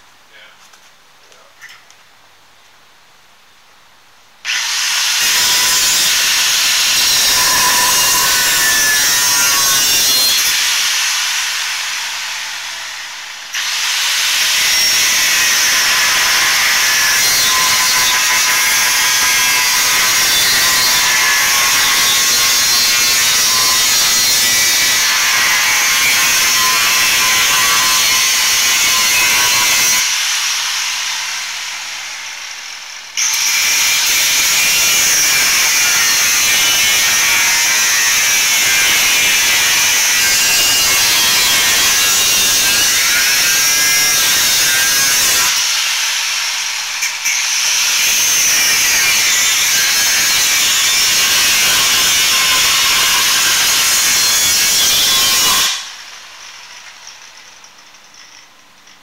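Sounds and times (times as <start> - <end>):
angle grinder cutting metal: 4.5 - 57.2.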